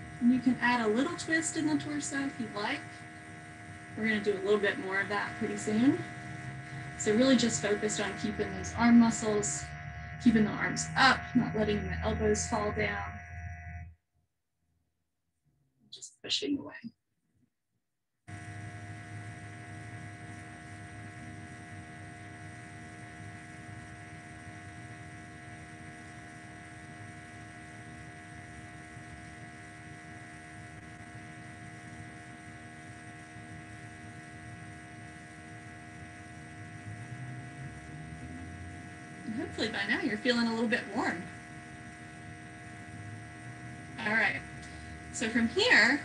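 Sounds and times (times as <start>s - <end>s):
electrical hum with hiss: 0.0s - 13.9s, 18.3s - 46.0s
constant electronic tones: 0.0s - 14.0s, 18.3s - 46.0s.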